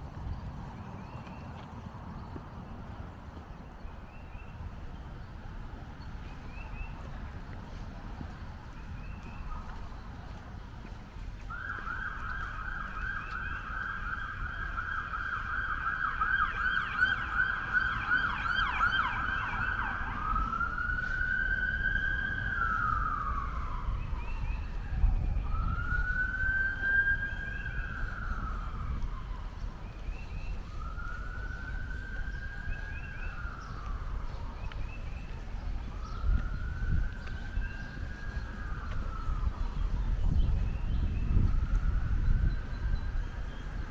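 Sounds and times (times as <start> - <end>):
emergency siren yelp and wail: 4.6 - 43.9.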